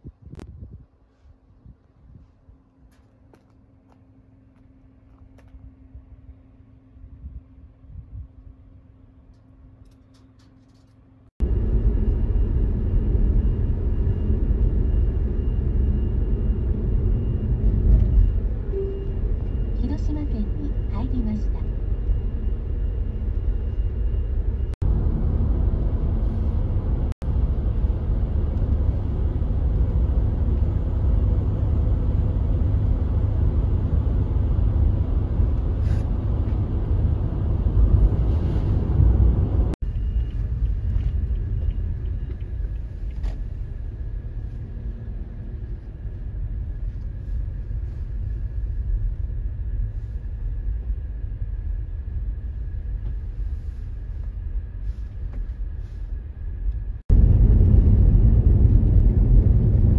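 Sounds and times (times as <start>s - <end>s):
van road and engine rumble: 0.0s - 59.9s.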